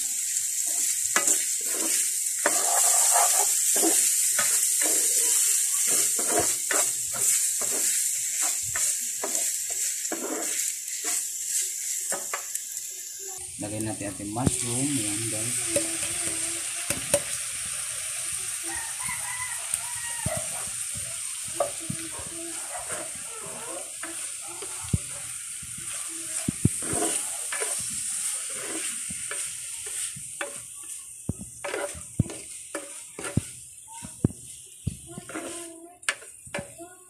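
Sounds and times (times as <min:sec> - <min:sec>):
food sizzling in a pan: 0:00.0 - 0:37.0
spatula scraping a pan: 0:00.1 - 0:13.1, 0:18.9 - 0:37.0.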